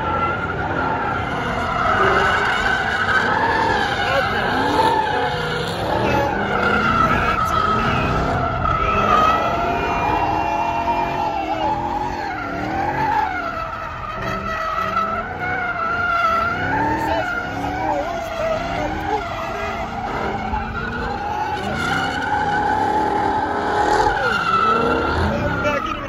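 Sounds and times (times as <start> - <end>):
car engine revving: 0.0 - 26.0
tyres squealing: 0.0 - 26.0.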